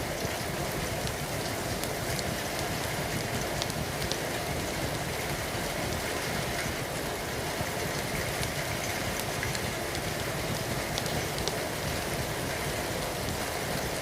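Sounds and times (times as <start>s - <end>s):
steady rain: 0.0s - 14.0s
wood fire crackling: 0.0s - 14.0s.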